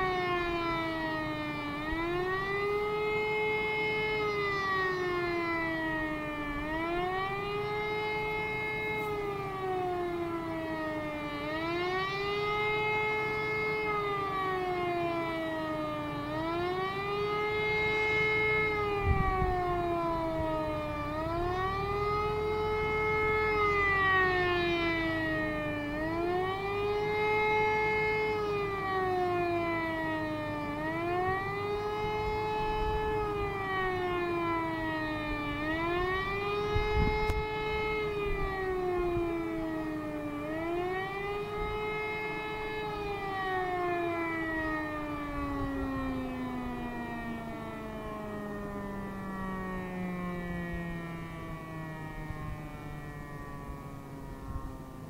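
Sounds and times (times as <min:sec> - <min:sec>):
siren wailing: 0:00.0 - 0:55.0.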